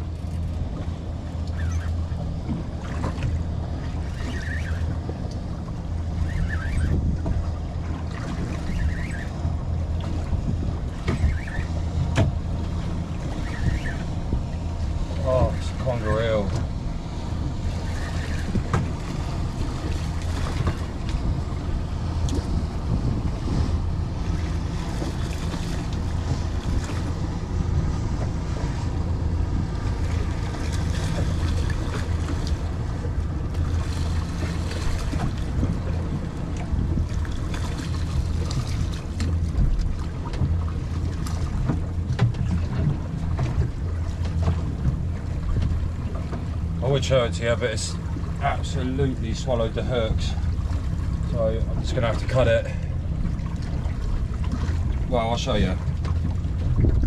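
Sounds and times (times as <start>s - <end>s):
water slapping boat hull: 0.0s - 57.0s
wind buffeting microphone: 0.0s - 57.0s.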